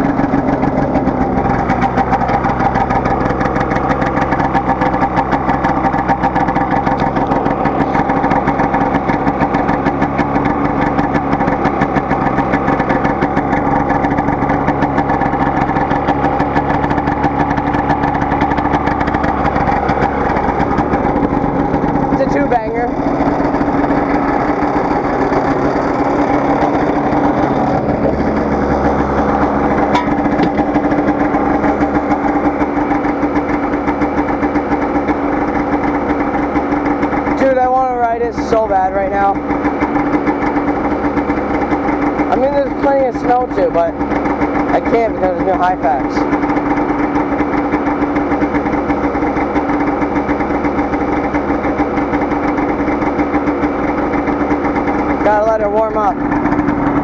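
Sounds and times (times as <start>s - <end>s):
snowmobile engine idling: 0.0s - 57.0s.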